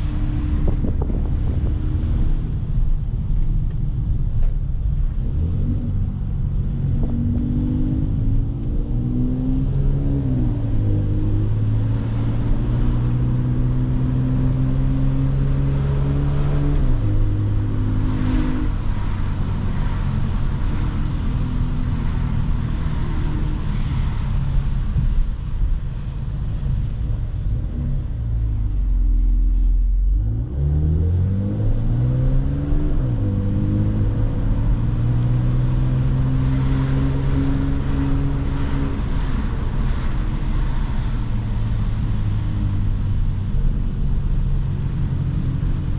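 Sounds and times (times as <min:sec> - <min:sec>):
car engine and exhaust accelerating: 0:00.0 - 0:45.9.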